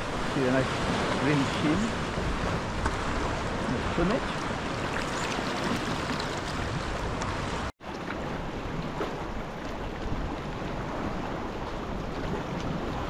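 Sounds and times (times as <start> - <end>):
water lapping around a kayak: 0.0 - 13.0
wind noise on microphone: 0.0 - 13.0.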